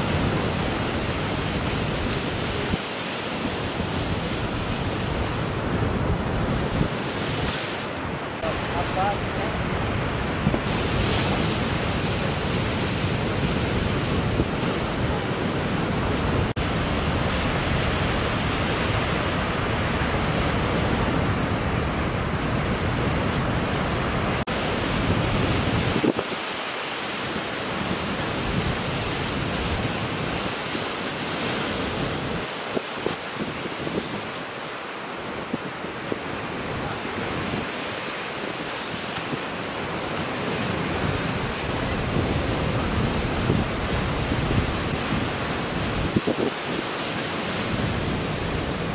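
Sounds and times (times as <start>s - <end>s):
wind buffeting microphone: 0.0s - 26.4s, 27.8s - 48.9s
ocean surf breaking: 0.0s - 48.9s.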